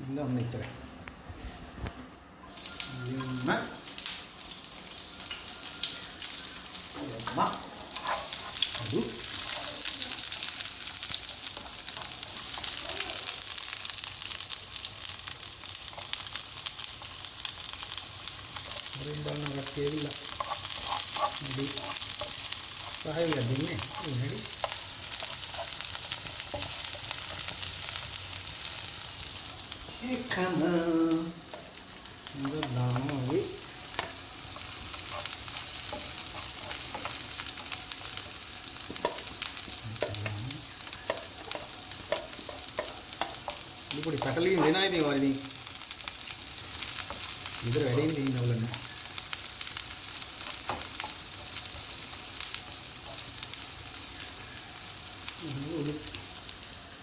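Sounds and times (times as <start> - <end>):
onions sizzling in oil: 2.5 - 57.0
spatula stirring in pan: 7.2 - 12.8, 13.4 - 30.6, 31.4 - 55.0.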